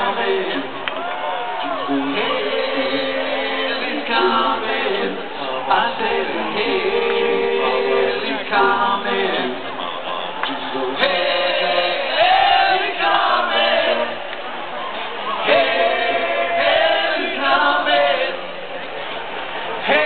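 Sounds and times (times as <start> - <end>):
voices singing together: 0.0 - 20.0.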